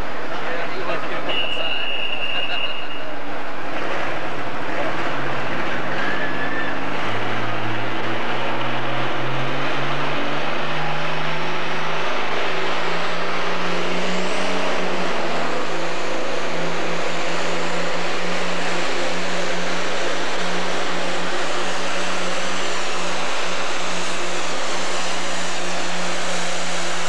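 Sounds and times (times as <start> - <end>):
diesel tractor engine at full throttle: 0.0 - 27.0.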